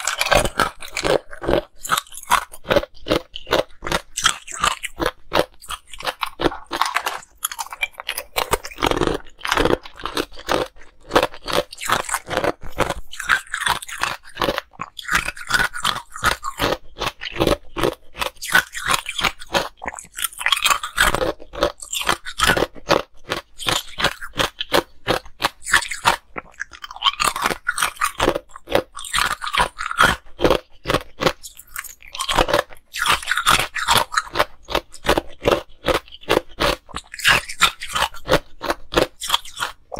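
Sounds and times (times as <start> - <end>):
ice cubes being chewed: 0.0 - 39.9.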